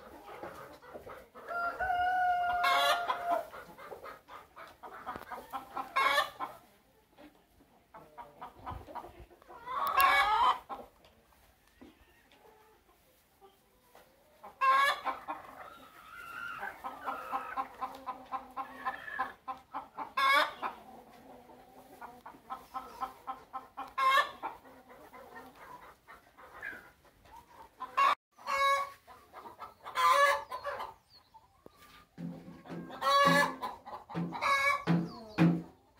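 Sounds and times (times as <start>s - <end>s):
hens clucking and cackling: 0.0s - 35.9s.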